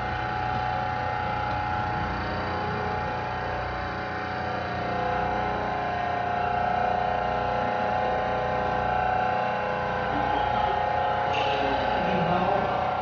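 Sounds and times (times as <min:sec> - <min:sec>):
hydraulic pump humming with whine: 0:00.0 - 0:13.0.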